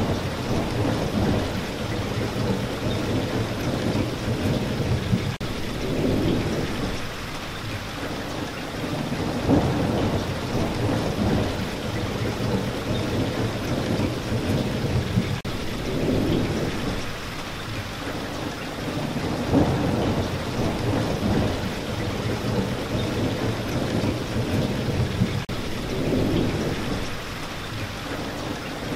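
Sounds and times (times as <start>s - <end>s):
thunder rumbling: 0.0s - 7.2s, 8.8s - 17.3s, 18.9s - 28.9s
heavy rain: 0.0s - 28.9s.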